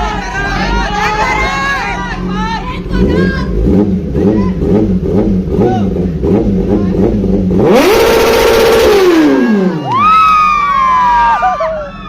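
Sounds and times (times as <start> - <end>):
motorcycle engine idling and revving: 0.0 - 11.2.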